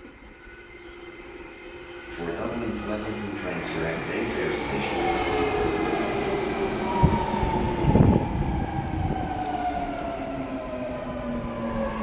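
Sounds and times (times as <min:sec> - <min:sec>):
electric train drive whine: 0:00.0 - 0:12.0
train cars rumbling: 0:02.1 - 0:12.0.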